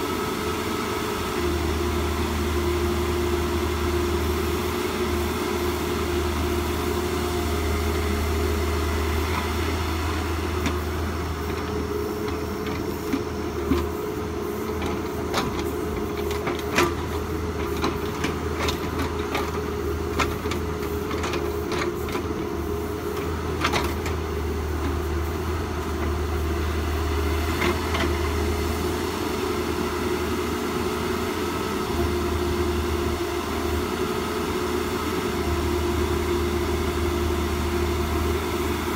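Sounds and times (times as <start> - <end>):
engine humming: 1.4 - 38.9.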